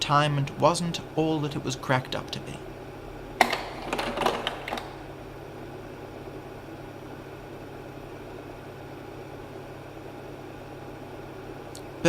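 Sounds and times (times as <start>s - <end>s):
slide projector fan hum: 0.0s - 12.0s.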